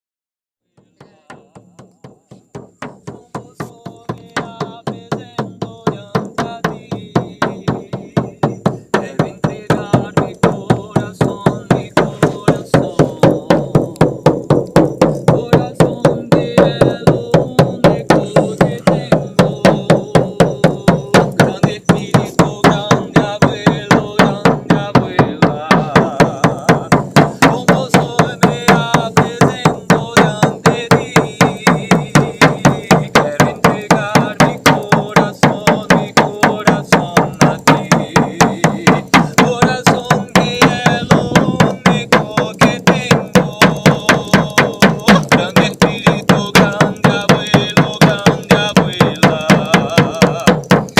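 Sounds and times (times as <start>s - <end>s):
hand drum beating: 0.7s - 50.9s
person chanting wordlessly: 0.7s - 50.9s.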